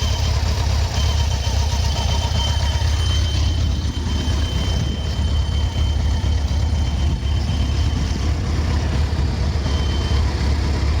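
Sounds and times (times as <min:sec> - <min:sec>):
motorcycle engine idling: 0:00.0 - 0:11.0
thin high whistle: 0:00.0 - 0:11.0.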